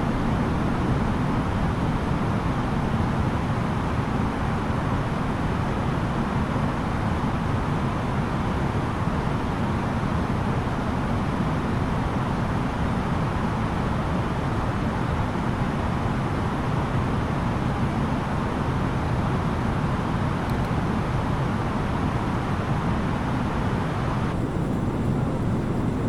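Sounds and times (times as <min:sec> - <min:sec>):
airliner cabin engine roar: 0:00.0 - 0:26.0.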